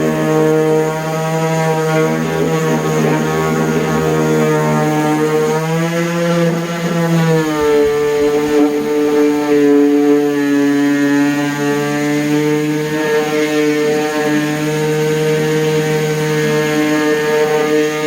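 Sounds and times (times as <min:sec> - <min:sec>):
orbital sander sanding wood: 0:00.0 - 0:18.0.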